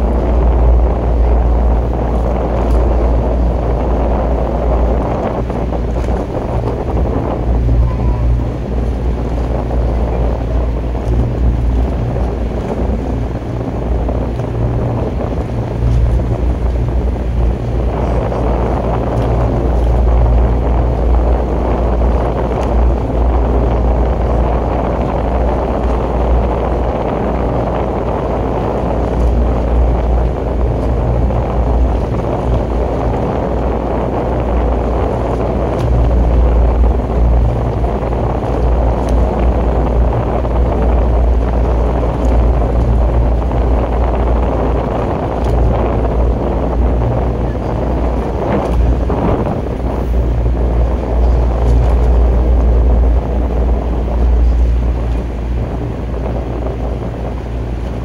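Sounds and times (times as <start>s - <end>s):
outboard engine running: 0.0s - 58.0s
wind rumbling on microphone: 0.0s - 58.0s.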